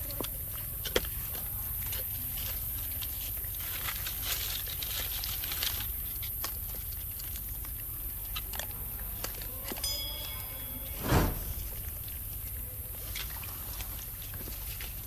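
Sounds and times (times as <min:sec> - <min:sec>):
rustling and crinkling: 0:01.2 - 0:09.6, 0:11.0 - 0:15.0.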